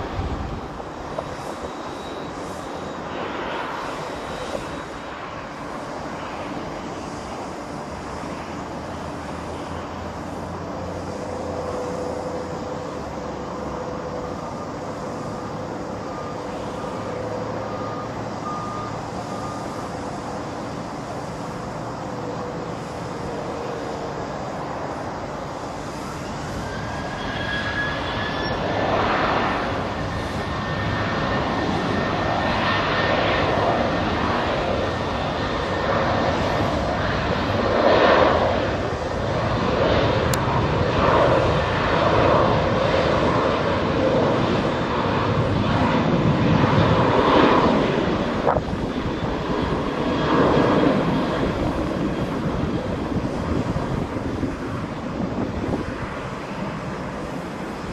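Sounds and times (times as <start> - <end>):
jet engines spooling up: 0.0 - 57.9.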